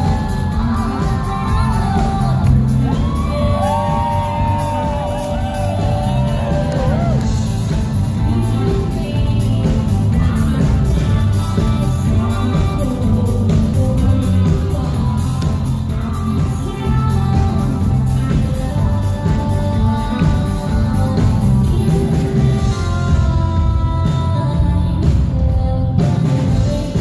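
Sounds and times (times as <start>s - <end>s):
heavy bass guitar: 0.0s - 27.0s
live rock band playing: 0.0s - 27.0s.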